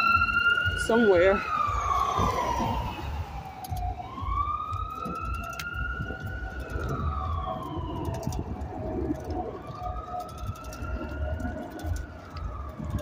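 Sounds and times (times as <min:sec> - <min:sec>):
emergency siren wailing: 0:00.0 - 0:13.0
low rumble: 0:00.0 - 0:13.0.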